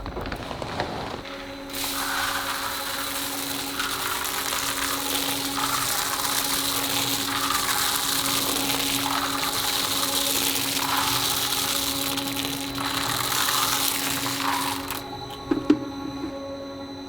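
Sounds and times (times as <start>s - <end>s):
factory machine humming: 0.0s - 17.0s.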